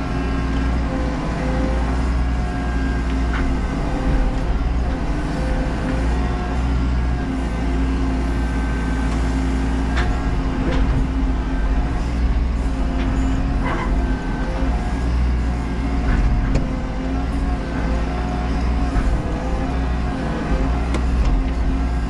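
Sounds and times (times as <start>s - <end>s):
diesel engine under hydraulic load: 0.0s - 22.0s.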